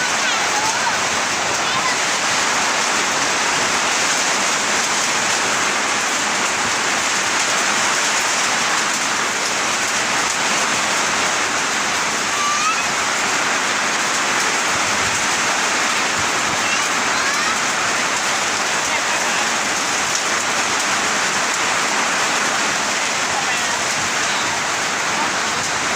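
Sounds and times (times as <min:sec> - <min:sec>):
heavy rain pouring: 0:00.0 - 0:25.9.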